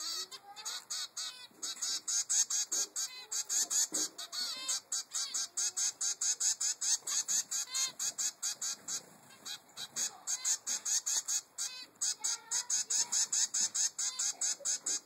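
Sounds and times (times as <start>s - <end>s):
finch chick begging calls: 0.0s - 15.0s.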